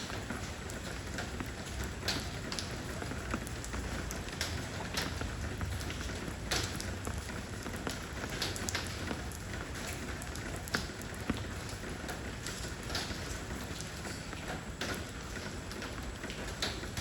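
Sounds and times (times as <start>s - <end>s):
rain on stone: 0.0s - 17.0s.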